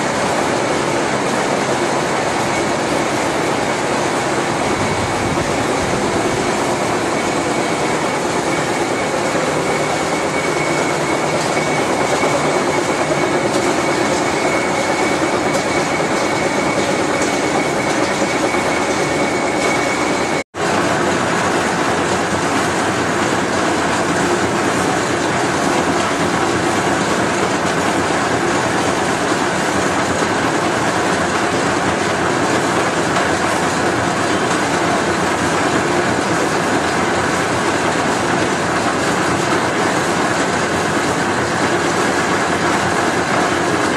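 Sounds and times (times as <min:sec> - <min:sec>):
high machine whine: 0:00.0 - 0:43.9.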